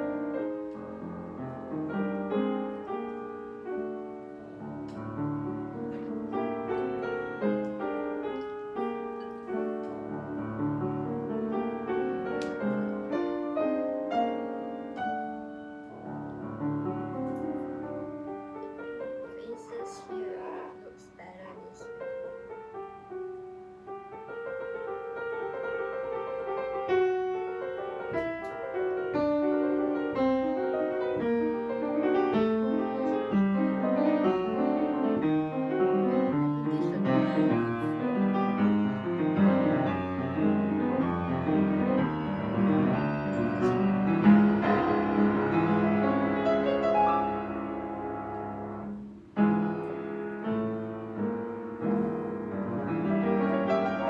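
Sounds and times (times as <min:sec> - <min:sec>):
solo piano music: 0:00.0 - 0:54.0.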